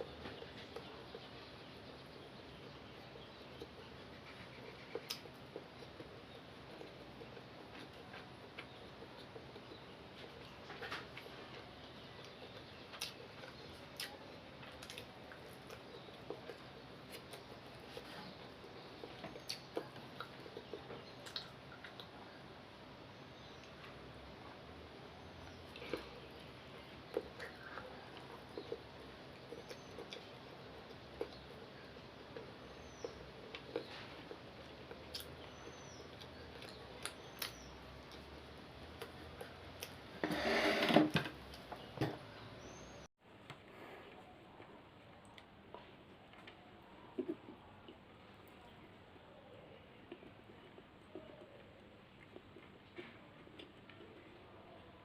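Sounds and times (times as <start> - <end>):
chewing: 0.0 - 22.3, 25.4 - 40.1, 44.1 - 49.0, 49.7 - 55.0
soft clicks of eating rice: 0.0 - 22.4, 23.4 - 24.2, 25.4 - 40.0, 43.4 - 55.0.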